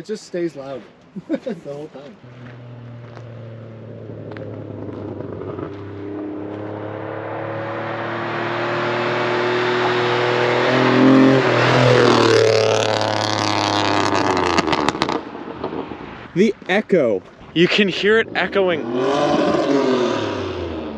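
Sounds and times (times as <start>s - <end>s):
loud car passing by: 2.2s - 16.3s, 17.6s - 20.9s.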